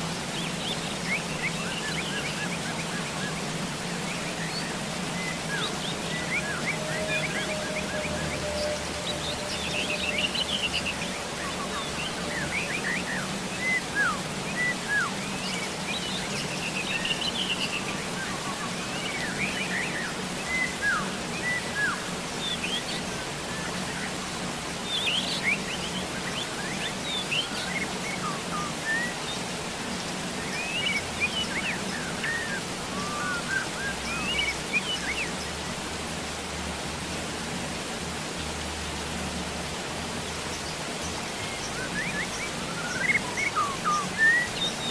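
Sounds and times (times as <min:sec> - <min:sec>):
birds chirping: 0:00.0 - 0:36.9, 0:37.6 - 0:44.9
steady rain hiss: 0:00.0 - 0:44.9.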